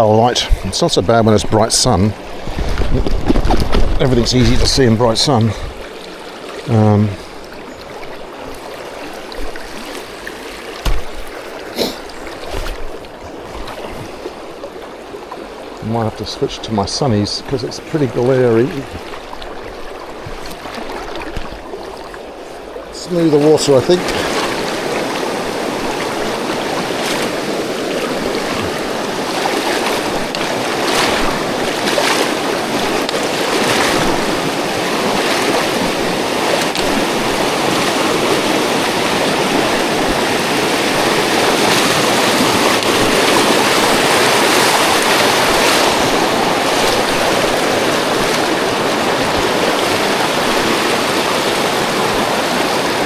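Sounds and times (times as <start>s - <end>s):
river water rushing: 0.0s - 53.0s
water splashing: 0.0s - 53.0s.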